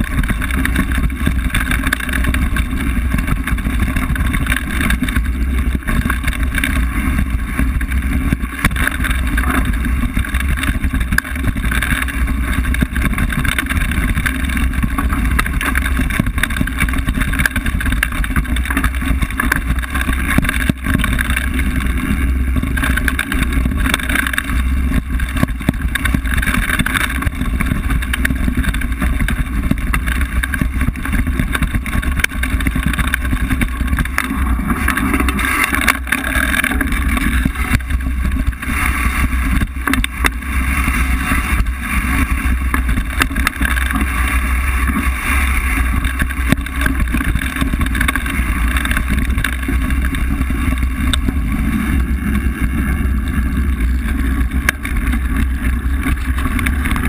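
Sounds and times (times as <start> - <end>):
bike rattling and knocking: 0.0 - 57.0
bike tyres rumbling on dirt: 0.0 - 57.0.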